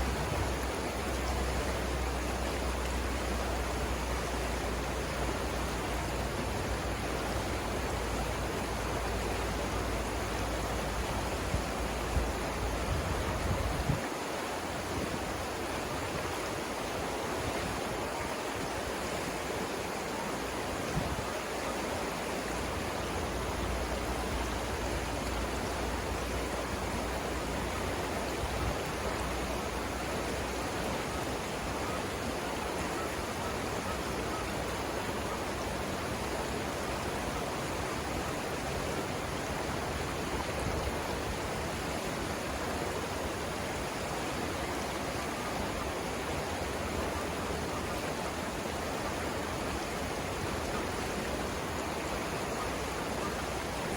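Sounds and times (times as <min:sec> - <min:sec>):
river rapids rushing: 0:00.0 - 0:53.9.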